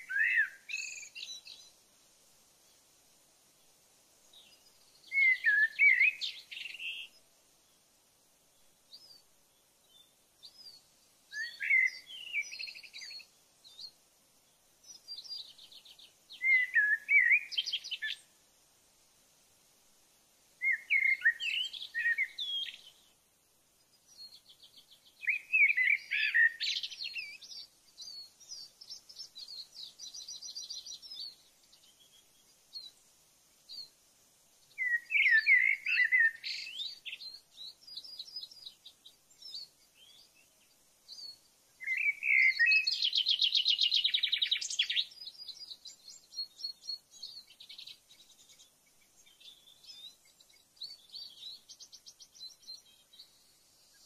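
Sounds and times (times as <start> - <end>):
songbird singing trills: 0.0 - 1.8, 4.2 - 7.8, 8.5 - 18.4, 20.6 - 23.2, 23.8 - 33.0, 33.6 - 34.0, 34.6 - 54.0.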